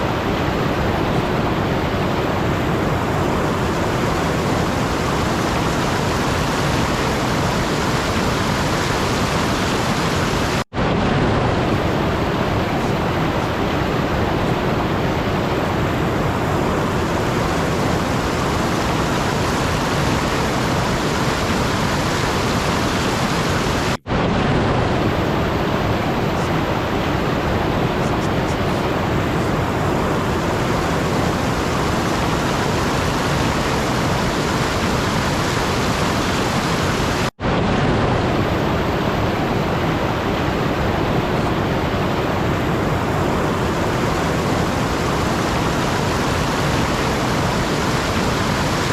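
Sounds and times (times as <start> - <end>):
loud steady rushing noise: 0.0 - 48.9.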